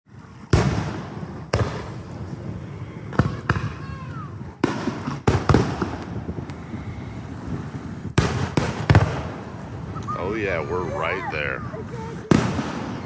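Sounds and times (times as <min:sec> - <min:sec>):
fireworks exploding: 0:00.1 - 0:13.0.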